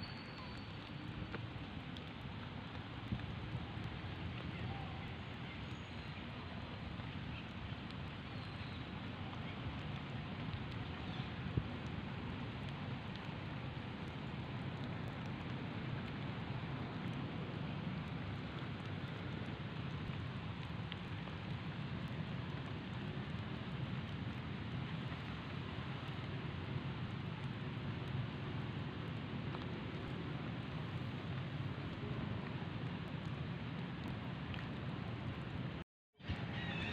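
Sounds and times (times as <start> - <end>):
outdoor background hiss: 0.0 - 36.9.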